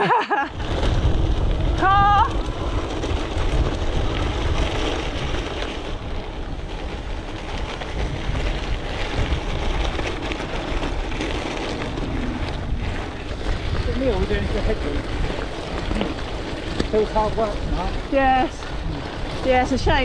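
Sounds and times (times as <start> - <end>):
wind buffeting microphone: 0.5 - 20.0.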